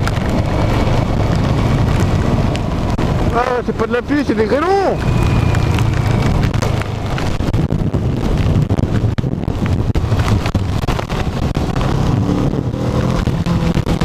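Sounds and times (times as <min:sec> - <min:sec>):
wind buffeting microphone: 0:00.0 - 0:03.7, 0:04.8 - 0:14.0
hailstones ticking: 0:00.0 - 0:14.0.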